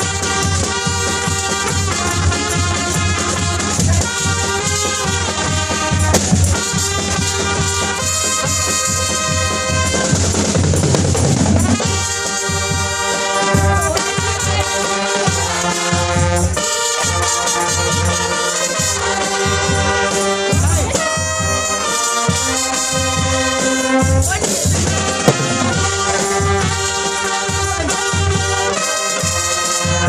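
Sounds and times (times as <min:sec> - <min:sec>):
bass and drum beat: 0:00.0 - 0:17.2, 0:18.8 - 0:30.0
trumpet-led brass music: 0:00.0 - 0:30.0.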